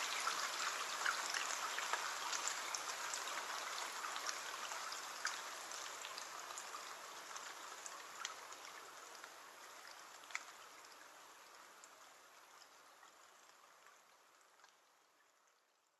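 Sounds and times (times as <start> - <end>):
rain hissing on a window: 0.0 - 15.9.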